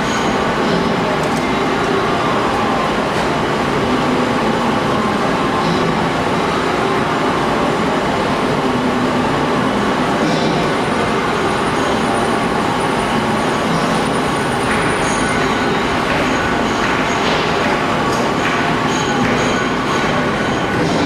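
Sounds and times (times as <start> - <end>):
metal lathe running: 0.0 - 21.0.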